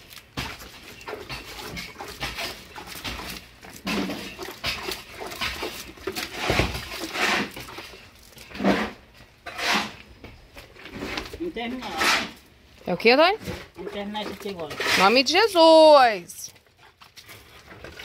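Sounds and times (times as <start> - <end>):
water sloshing from a bucket: 0.0 - 18.0.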